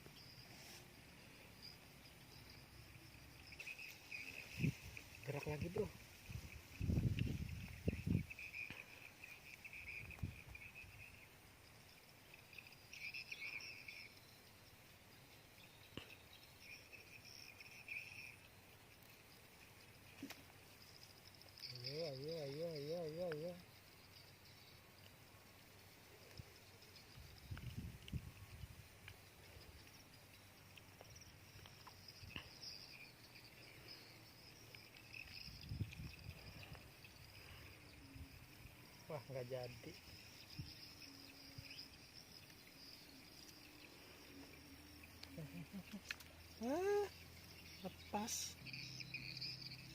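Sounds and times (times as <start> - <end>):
insects chirring: 0.0 - 49.9.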